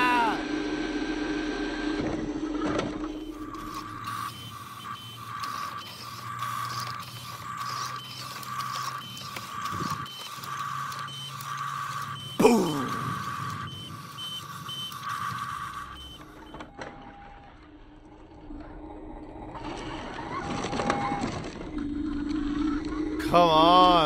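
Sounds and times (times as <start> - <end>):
toy truck reversing beeps: 3.1 - 24.0.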